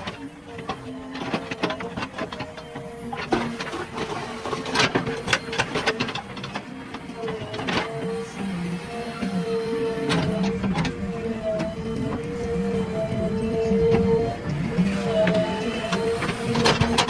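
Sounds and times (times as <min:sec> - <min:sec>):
earth-moving machine engine: 0:00.0 - 0:17.0.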